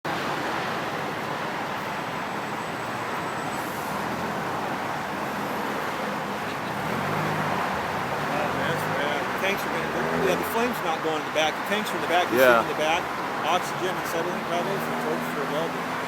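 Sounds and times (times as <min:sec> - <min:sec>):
road traffic passing: 0:00.1 - 0:16.0.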